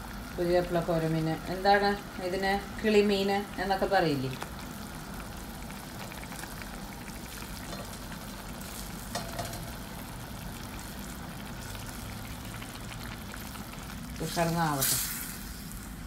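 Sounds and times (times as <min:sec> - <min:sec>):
curry boiling and spattering: 0:00.0 - 0:16.0.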